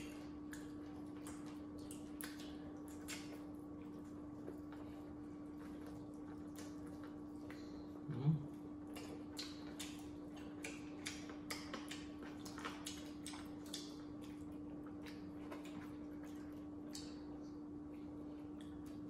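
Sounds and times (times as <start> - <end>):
faint hum: 0.0 - 19.0
people chewing and lip-smacking: 0.0 - 19.0.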